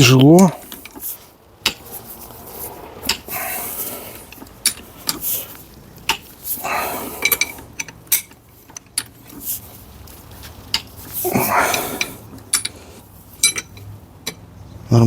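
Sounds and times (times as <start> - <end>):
metal tools clinking on steel: 0.0 - 14.5
metal scraping: 0.5 - 13.9.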